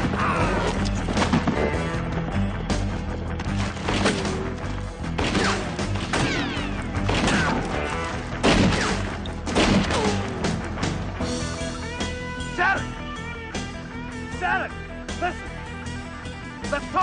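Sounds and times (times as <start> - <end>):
dramatic background music: 0.0 - 17.0.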